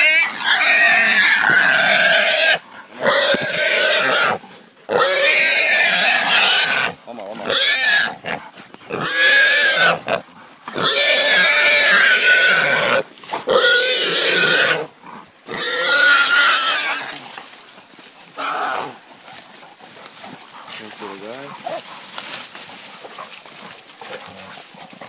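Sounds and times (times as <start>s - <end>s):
wild boar squealing: 0.0s - 17.3s, 18.4s - 25.0s.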